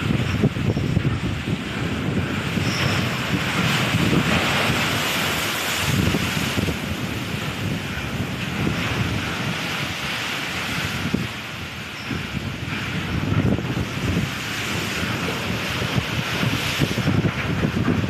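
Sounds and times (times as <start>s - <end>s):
heavy seas against hull: 0.0s - 18.0s
seawater washing across deck: 0.0s - 18.0s
wave breaking over deck: 0.0s - 18.0s
wind buffeting microphone: 0.0s - 18.0s.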